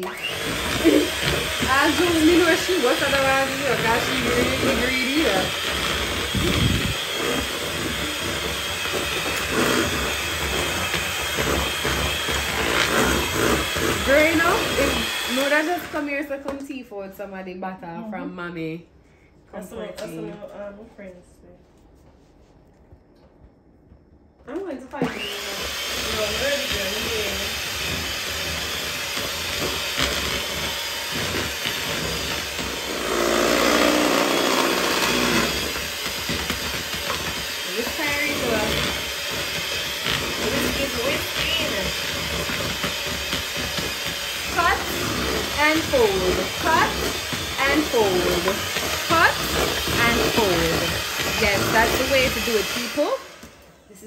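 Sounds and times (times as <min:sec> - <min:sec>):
electric hand mixer whirring: 0:00.0 - 0:16.6, 0:24.9 - 0:53.9.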